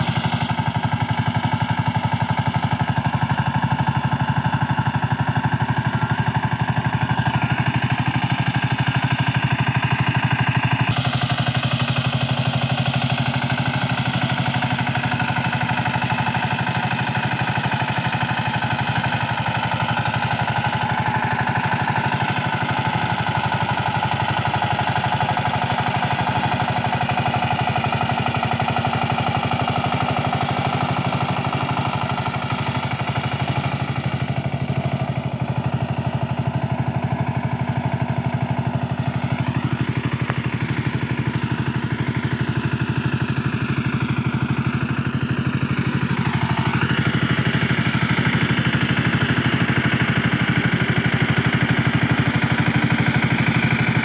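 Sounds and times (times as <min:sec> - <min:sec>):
diesel engine running: 0:00.0 - 0:54.0
rotary tiller churning soil: 0:00.0 - 0:54.0.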